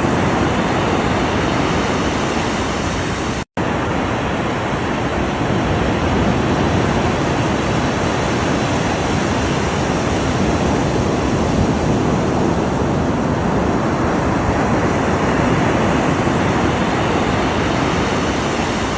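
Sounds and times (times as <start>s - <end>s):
ocean surf washing: 0.0s - 18.9s.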